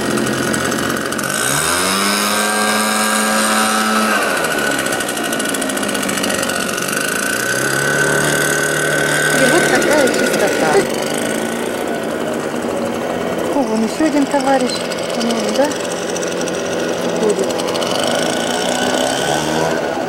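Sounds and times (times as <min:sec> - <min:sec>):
leaf blower engine revving: 0:00.0 - 0:20.0.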